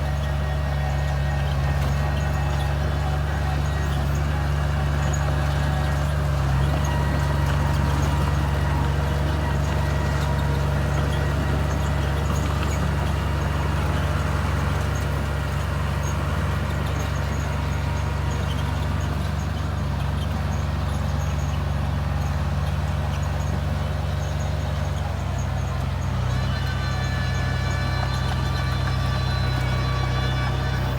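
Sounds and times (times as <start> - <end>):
bulldozer diesel engine: 0.0 - 30.9.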